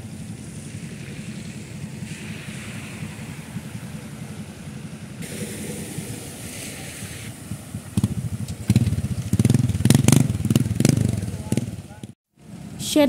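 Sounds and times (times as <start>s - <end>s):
tyres splashing through water: 0.0s - 11.8s
motorbike passing through water: 0.0s - 12.8s
low engine rumble: 0.0s - 13.0s.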